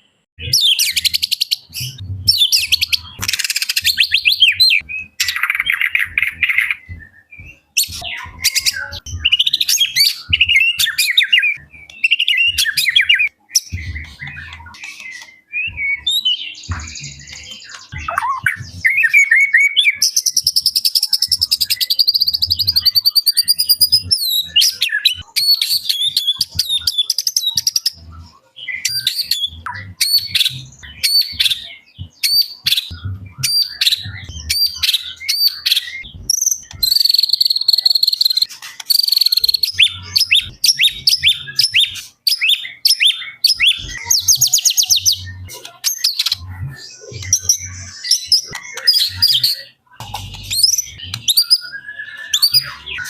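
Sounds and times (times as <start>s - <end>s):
songbird trills and whistles: 0.4s - 53.0s.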